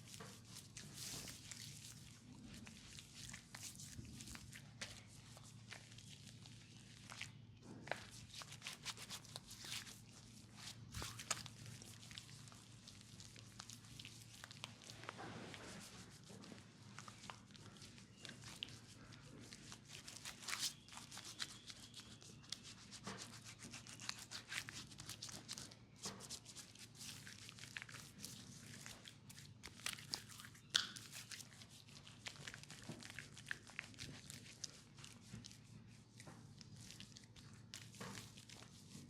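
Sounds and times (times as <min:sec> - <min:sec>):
hands rubbing skin: 0:00.1 - 0:29.0, 0:29.6 - 0:39.0.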